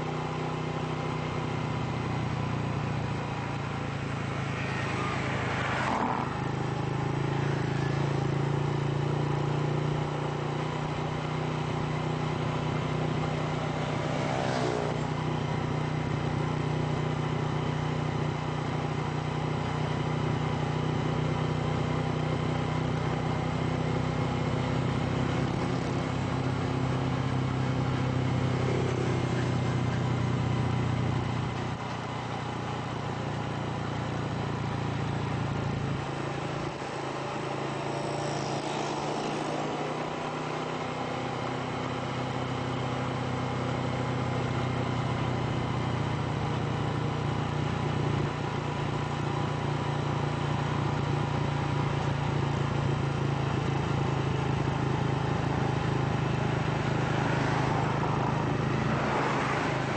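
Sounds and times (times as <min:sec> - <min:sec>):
passing vehicle: 0:00.0 - 0:59.9
vehicle engine and road noise: 0:00.0 - 0:59.9.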